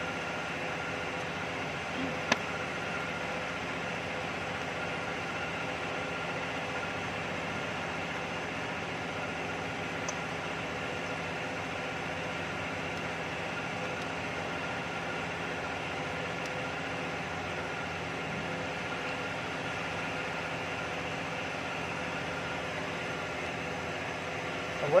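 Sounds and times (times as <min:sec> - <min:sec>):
machine hum and hiss: 0:00.0 - 0:25.0.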